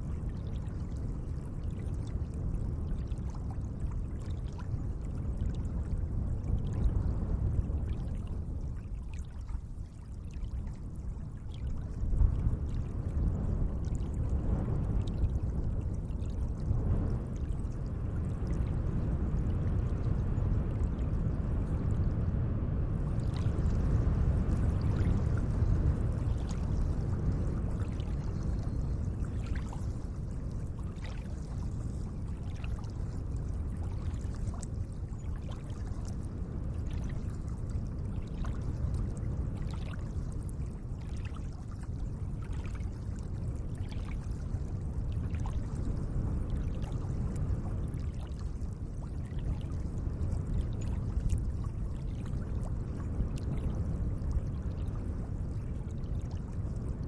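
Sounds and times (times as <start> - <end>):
small water splashes and drips: 0.0 - 22.1, 23.0 - 57.0.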